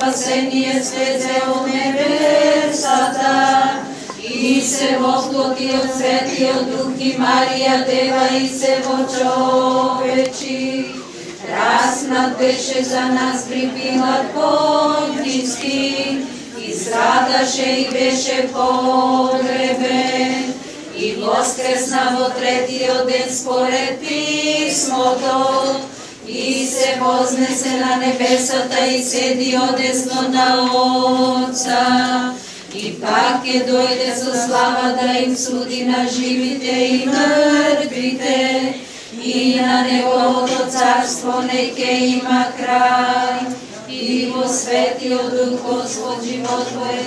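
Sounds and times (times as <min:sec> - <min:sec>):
group singing chant a cappella: 0:00.0 - 0:47.0.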